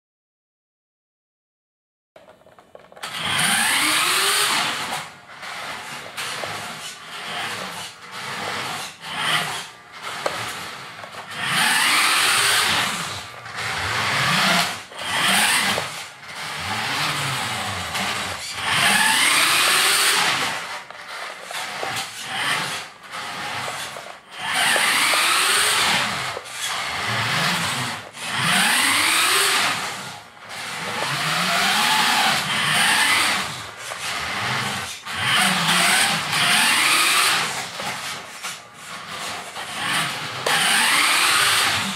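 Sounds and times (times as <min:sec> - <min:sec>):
toy car electric motor whining: 0:02.9 - 0:41.9.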